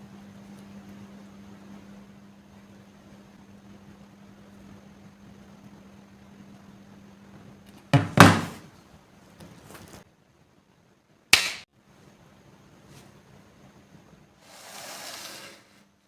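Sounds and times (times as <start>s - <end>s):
low steady hum: 0.0s - 14.5s.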